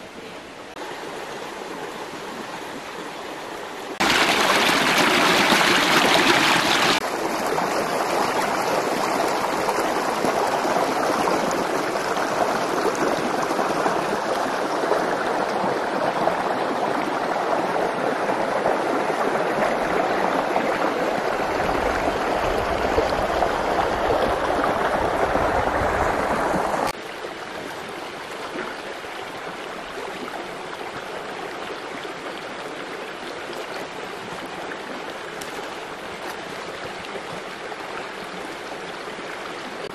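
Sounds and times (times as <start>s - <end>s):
stream rushing over stones: 0.6s - 39.9s.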